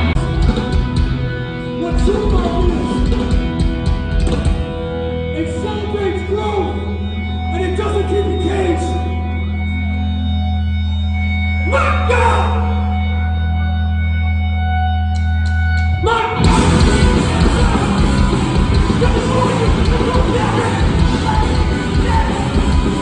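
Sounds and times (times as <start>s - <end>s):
hardcore punk band playing live: 0.0s - 14.4s, 15.2s - 23.0s.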